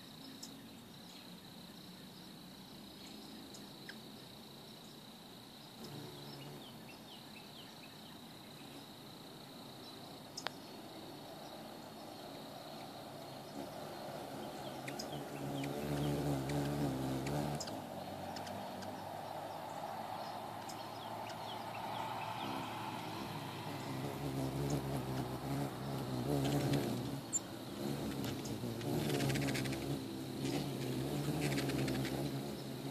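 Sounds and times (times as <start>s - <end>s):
hummingbird wings humming: 0.0s - 32.9s.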